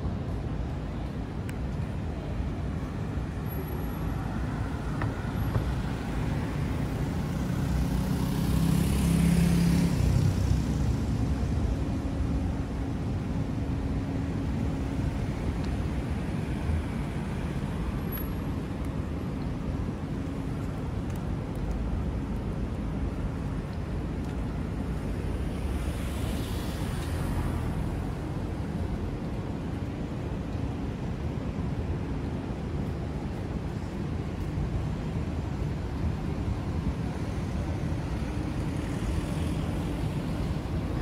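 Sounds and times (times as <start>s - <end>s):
rumble of road traffic: 0.0s - 41.0s.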